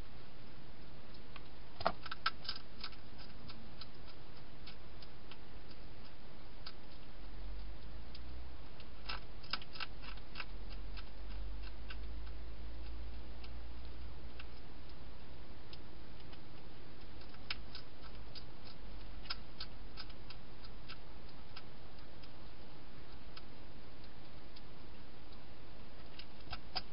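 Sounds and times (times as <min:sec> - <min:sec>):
hedgehog crunching food: 0:01.2 - 0:25.0, 0:25.8 - 0:26.9.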